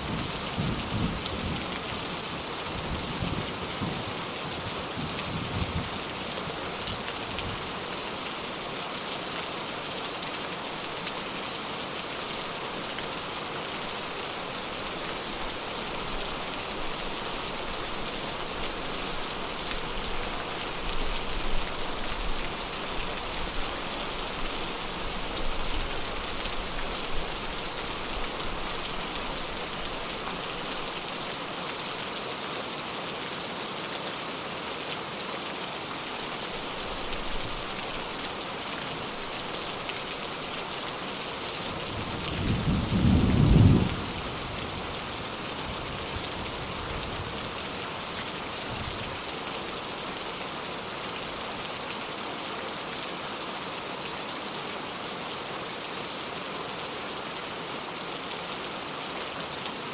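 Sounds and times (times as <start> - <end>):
steady rain on a surface: 0.0 - 59.9.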